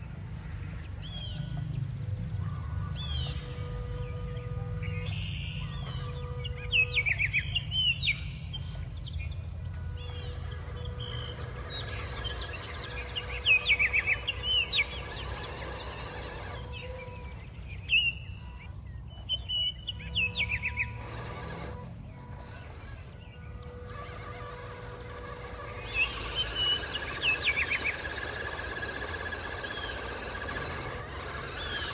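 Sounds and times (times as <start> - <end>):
songbird chirping: 0.0 - 31.9.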